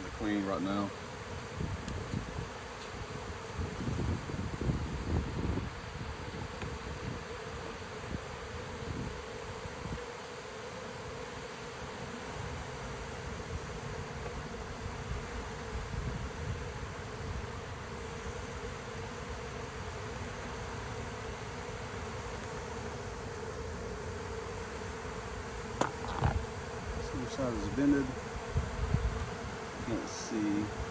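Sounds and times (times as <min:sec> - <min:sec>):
honeybee swarm buzzing: 0:00.0 - 0:30.9.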